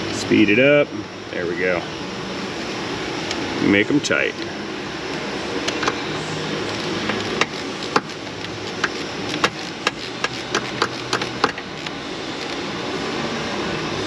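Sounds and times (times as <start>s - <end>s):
shop fan humming: 0.0s - 14.0s.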